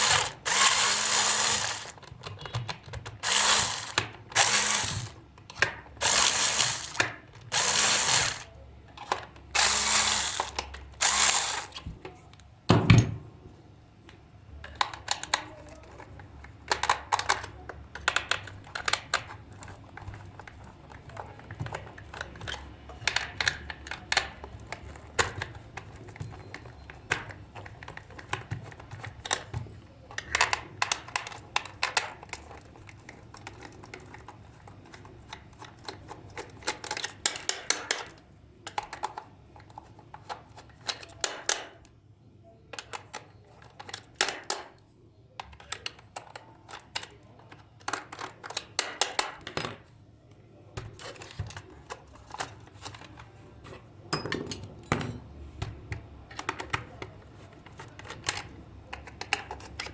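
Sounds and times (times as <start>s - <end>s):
small plastic parts clicking: 0.0s - 11.8s, 14.6s - 41.9s, 42.7s - 44.8s, 45.4s - 49.8s, 56.3s - 59.9s.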